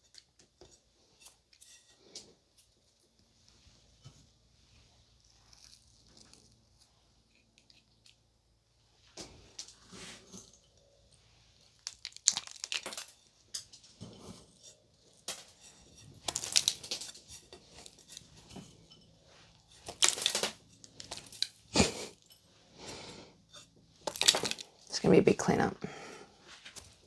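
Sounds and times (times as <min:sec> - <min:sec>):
crinkling and rustling handling: 0:00.0 - 0:25.0.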